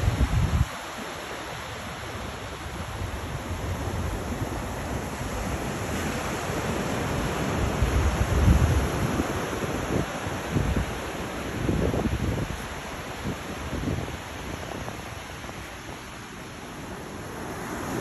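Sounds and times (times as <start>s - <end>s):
wind buffeting microphone: 0.0s - 16.4s
ocean surf on beach: 0.0s - 18.0s.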